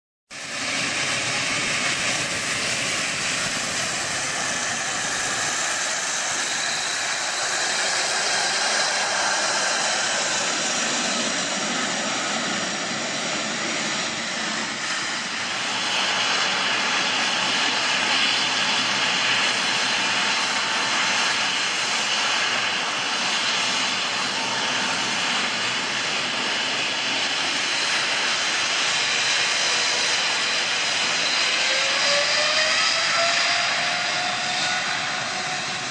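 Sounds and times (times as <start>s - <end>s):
jet engines roaring: 0.3s - 35.9s.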